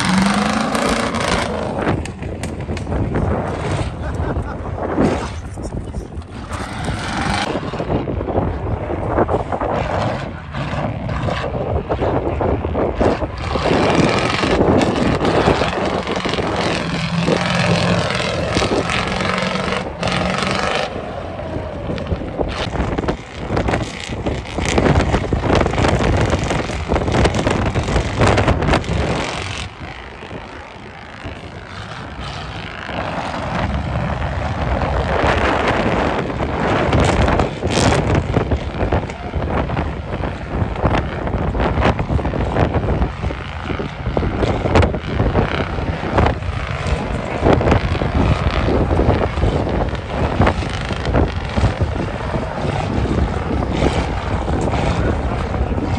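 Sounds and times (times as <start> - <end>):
truck engine running hard: 0.0 - 55.9
wind buffeting microphone: 0.0 - 55.9.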